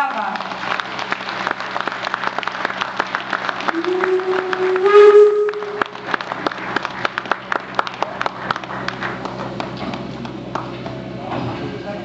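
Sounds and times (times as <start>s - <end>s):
crowd applauding: 0.0s - 11.1s.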